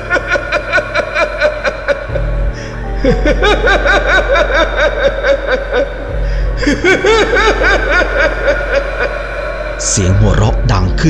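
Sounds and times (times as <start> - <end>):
low droning music: 0.0 - 11.0.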